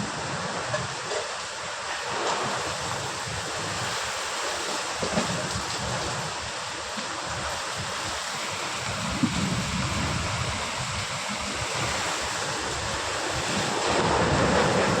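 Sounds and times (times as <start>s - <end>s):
heavy rain pouring: 0.0s - 15.0s
wind gusts buffeting microphone: 0.0s - 15.0s.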